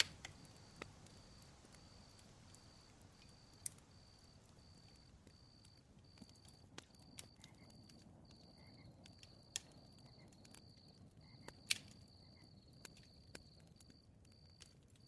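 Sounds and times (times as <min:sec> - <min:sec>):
campfire crackling: 0:00.0 - 0:15.0
cricket chirping: 0:00.0 - 0:15.0.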